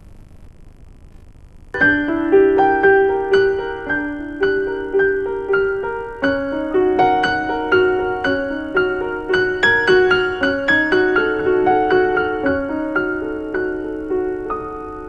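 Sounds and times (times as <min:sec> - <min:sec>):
faint hiss: 0:00.0 - 0:15.0
piano music: 0:01.8 - 0:15.0.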